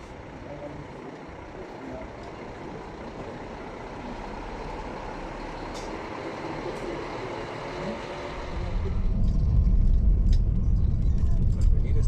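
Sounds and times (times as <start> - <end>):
diesel coach engine running: 0.0 - 12.0.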